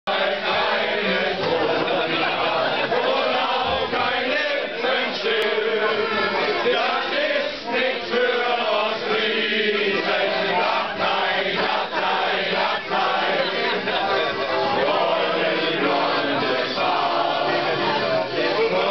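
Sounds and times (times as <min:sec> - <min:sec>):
group singing in chorus: 0:00.1 - 0:18.9.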